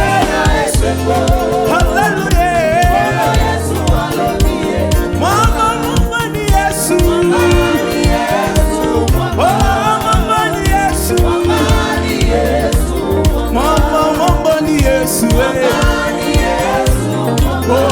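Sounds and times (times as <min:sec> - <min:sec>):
band playing worship music: 0:00.0 - 0:17.9
person singing: 0:00.0 - 0:17.9.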